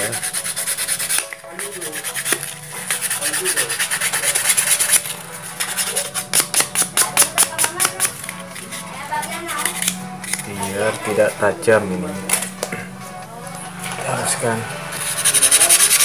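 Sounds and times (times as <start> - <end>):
sandpaper rubbing on rod: 0.0 - 11.3, 13.8 - 16.0.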